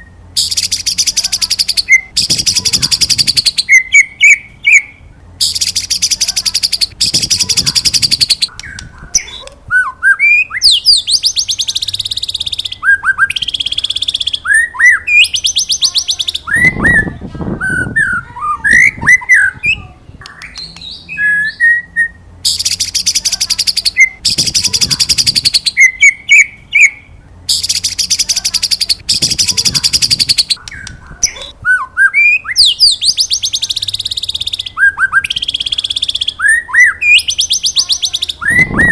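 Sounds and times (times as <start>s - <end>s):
fast buzzing bird trills: 0.0s - 9.5s, 10.2s - 17.1s, 22.4s - 31.5s, 32.6s - 38.9s
bird whistles: 0.0s - 19.8s, 20.4s - 38.9s.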